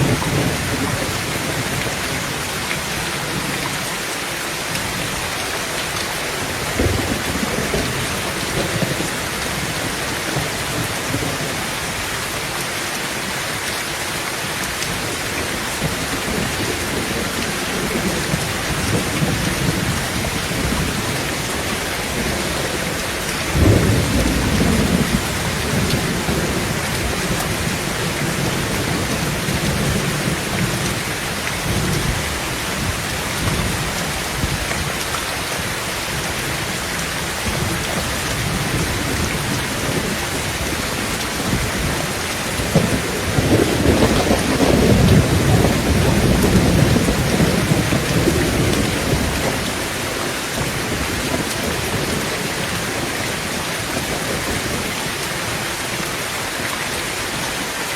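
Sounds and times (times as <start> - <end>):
thunder rumbling: 0.0 - 3.6, 6.1 - 12.1, 14.9 - 35.0, 35.6 - 55.1
heavy rain on a tin roof: 0.0 - 57.9.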